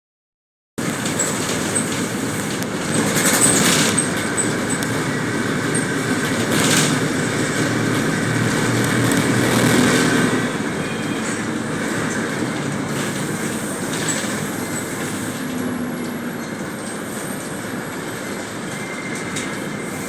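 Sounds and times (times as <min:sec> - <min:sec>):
vehicle rumble: 0:00.8 - 0:20.0.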